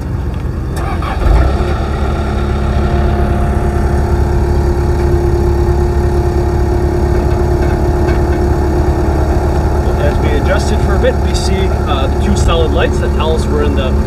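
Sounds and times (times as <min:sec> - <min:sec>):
constant mechanical whine: 0:00.0 - 0:14.0
loader engine running: 0:00.0 - 0:14.0.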